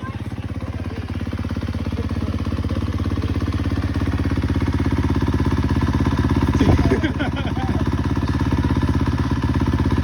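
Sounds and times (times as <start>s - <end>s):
dirt bike engine idling: 0.0s - 10.0s.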